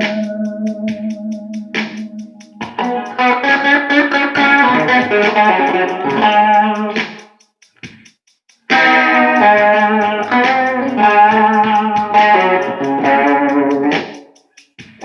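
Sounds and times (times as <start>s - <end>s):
guitar playing blues: 0.0s - 7.1s, 8.7s - 14.2s.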